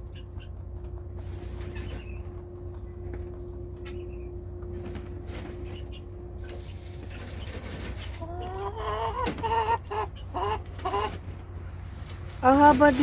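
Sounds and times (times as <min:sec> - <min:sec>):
chicken clucking and calling: 0:00.0 - 0:11.9
steady low hum: 0:00.0 - 0:13.0.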